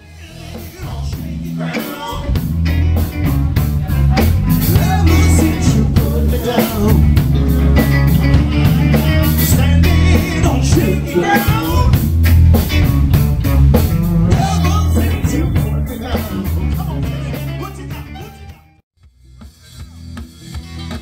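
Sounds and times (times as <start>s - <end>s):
male lead vocals: 0.0s - 12.2s, 13.8s - 18.8s
bass guitar: 0.0s - 21.0s
drum kit: 0.0s - 21.0s
electric guitar: 0.2s - 18.8s.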